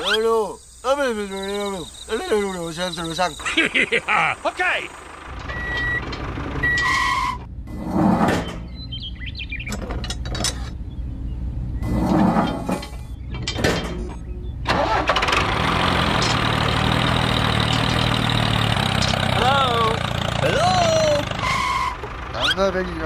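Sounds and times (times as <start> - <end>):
tractor engine starting and running: 1.6 - 23.0.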